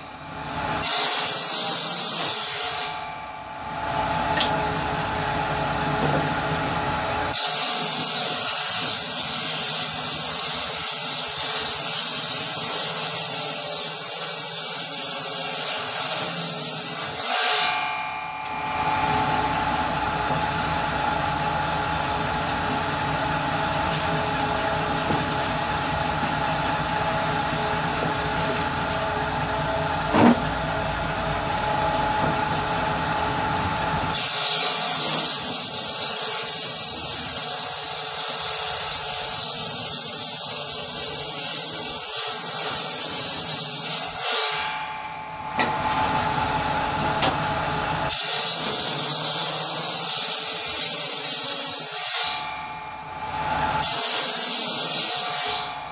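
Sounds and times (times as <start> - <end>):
power saw cutting wood: 0.0 - 55.9.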